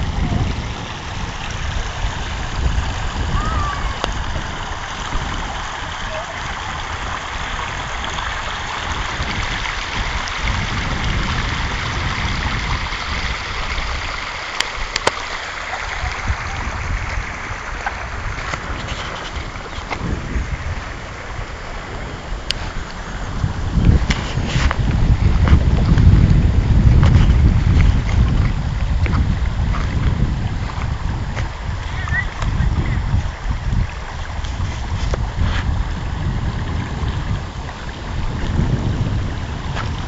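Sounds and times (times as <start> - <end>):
river water rushing over stones: 0.0 - 40.0
wind buffeting microphone: 0.0 - 40.0.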